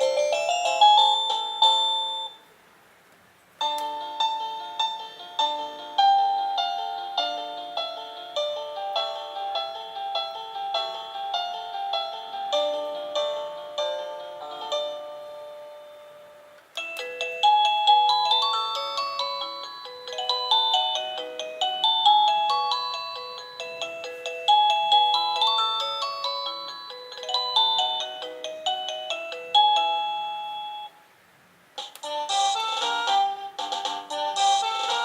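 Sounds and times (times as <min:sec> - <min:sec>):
electronic doorbell chime melody: 0:00.0 - 0:02.5, 0:03.6 - 0:31.0, 0:31.8 - 0:35.0.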